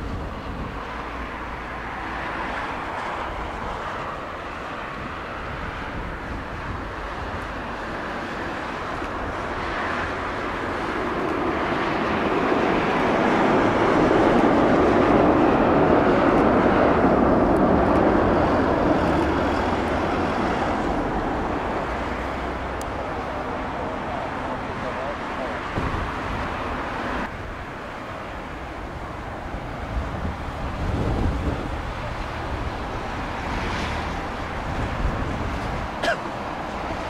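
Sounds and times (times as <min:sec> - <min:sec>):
jet airliner rolling on runway: 0:00.0 - 0:37.0.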